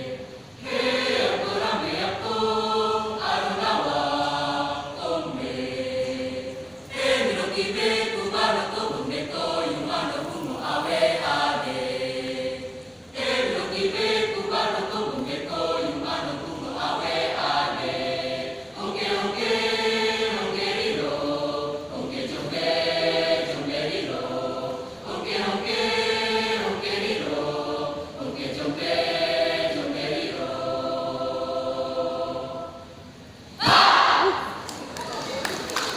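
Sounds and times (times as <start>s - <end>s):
choir singing: 0.0s - 34.7s.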